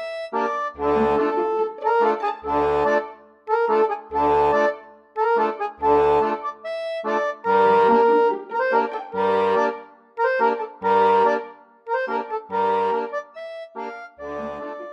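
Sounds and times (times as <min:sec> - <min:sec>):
accordion music: 0:00.0 - 0:14.9.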